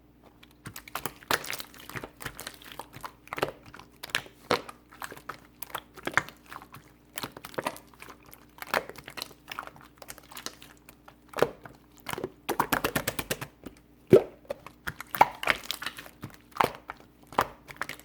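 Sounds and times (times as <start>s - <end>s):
slime being squished by hand: 0.2s - 18.0s.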